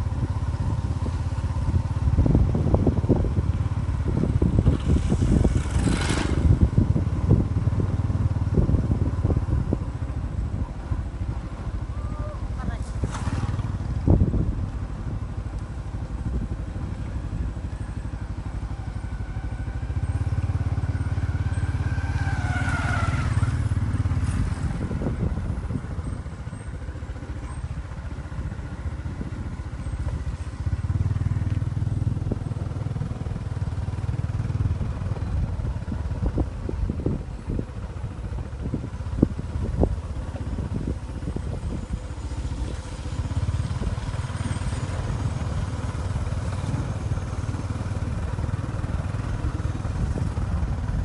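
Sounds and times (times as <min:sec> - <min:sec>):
vehicle engine rumbling: 0:00.0 - 0:51.0.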